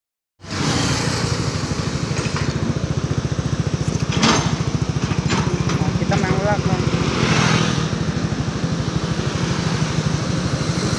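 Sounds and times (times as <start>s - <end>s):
engine running with fast throb: 0.4s - 10.9s.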